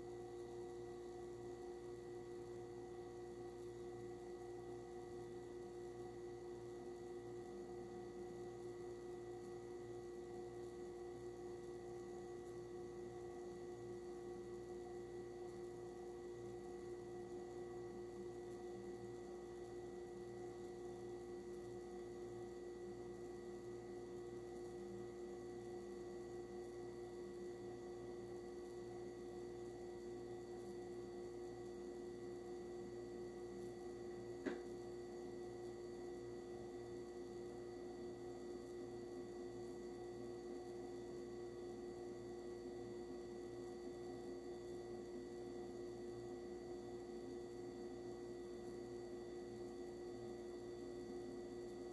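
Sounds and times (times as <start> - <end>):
oven electrical hum: 0.0 - 51.9.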